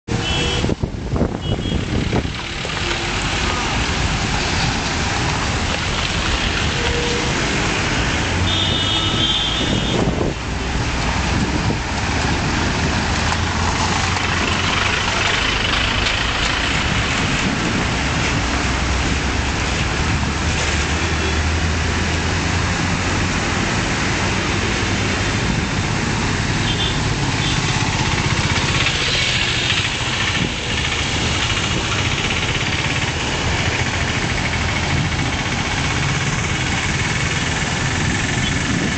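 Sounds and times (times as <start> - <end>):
truck and car engines: 0.1 - 38.9
tyres on wet road: 0.1 - 38.9.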